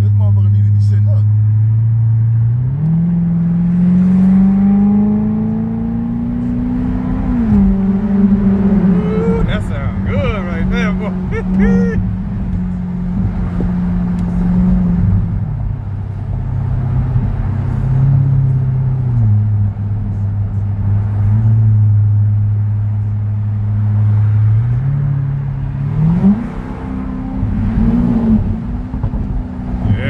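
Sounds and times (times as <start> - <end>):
car engine and exhaust: 0.0 - 30.0.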